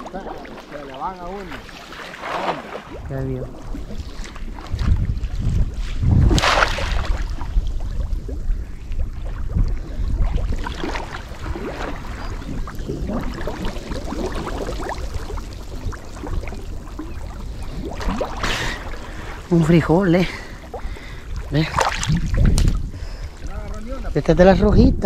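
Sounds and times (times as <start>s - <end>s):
water splashing from wading: 0.0s - 23.9s.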